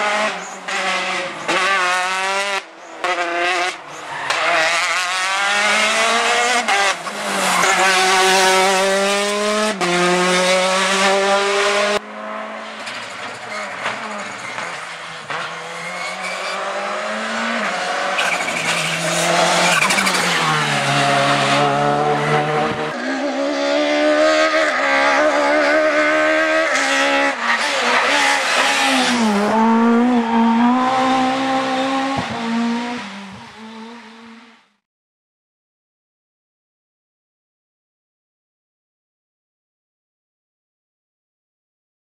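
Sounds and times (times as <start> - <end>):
rally car engine at full throttle: 0.0 - 34.8.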